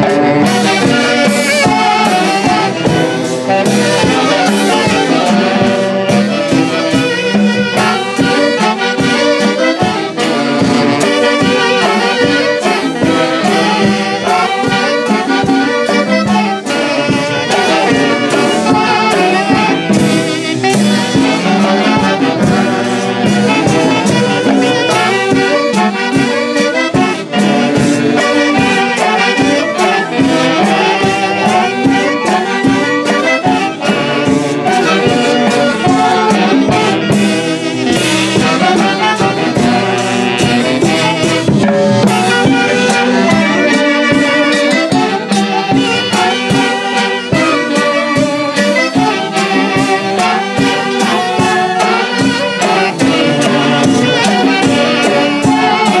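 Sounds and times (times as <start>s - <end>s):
percussion strikes: 0.0s - 56.0s
saxophones playing melody: 0.0s - 56.0s.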